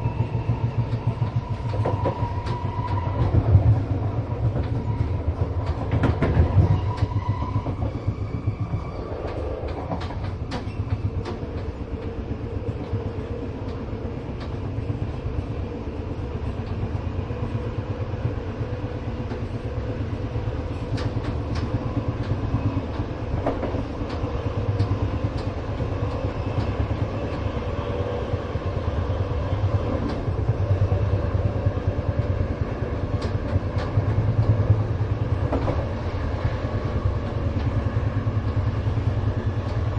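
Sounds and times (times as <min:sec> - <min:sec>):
train carriage rumbling on rails: 0:00.0 - 0:39.9.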